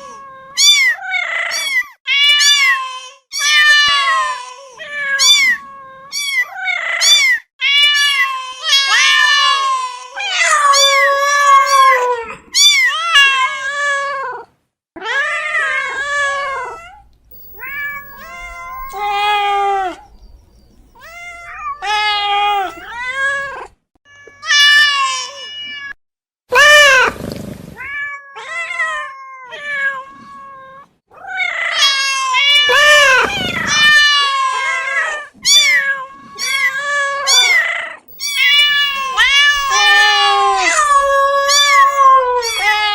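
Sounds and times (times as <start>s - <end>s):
cats meowing: 0.0s - 27.1s, 27.8s - 42.9s.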